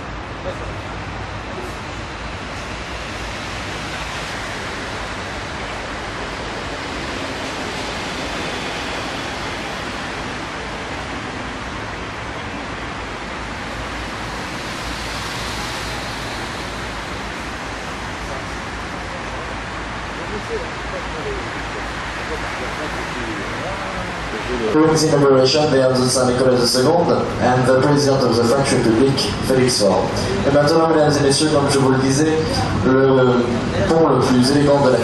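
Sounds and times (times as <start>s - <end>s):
low unsteady rumble: 0.0s - 35.0s
rushing outdoor noise: 0.0s - 35.0s.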